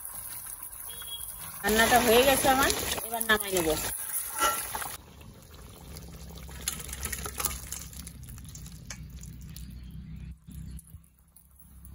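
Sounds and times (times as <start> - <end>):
curry pouring and slopping: 0.0 - 11.9.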